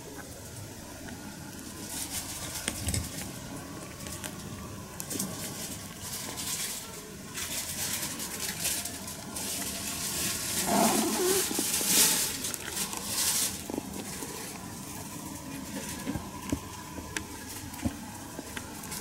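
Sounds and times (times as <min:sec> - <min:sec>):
cats rustling near microphone: 0:00.2 - 0:19.0.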